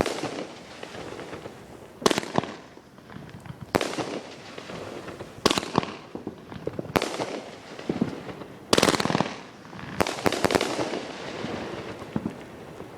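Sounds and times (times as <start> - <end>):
fireworks bangs: 0.0 - 12.9
fireworks rapid pops: 0.0 - 12.9.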